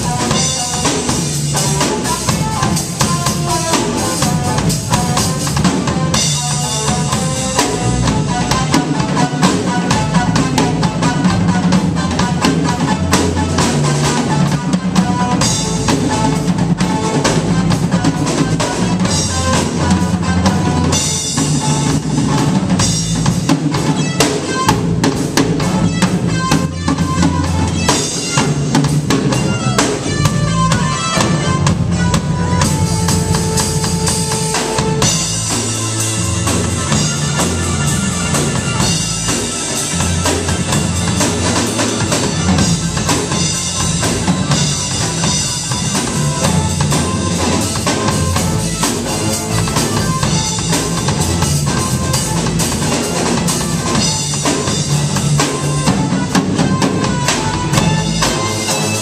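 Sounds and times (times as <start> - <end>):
drum kit playing: 0.0 - 59.0
electric bass line: 0.0 - 59.0
keyboard playing: 0.0 - 59.0.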